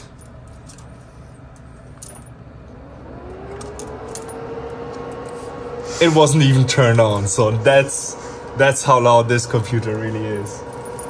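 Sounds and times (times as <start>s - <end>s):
cooling fans spinning up: 0.0s - 11.0s.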